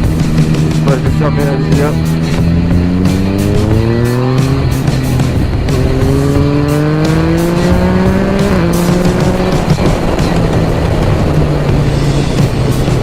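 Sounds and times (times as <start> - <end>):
motorcycle engine accelerating hard: 0.0 - 13.0.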